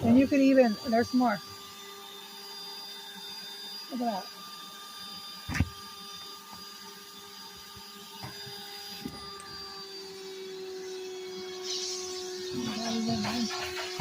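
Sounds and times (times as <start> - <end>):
vacuum cleaner motor whine: 0.0 - 14.0.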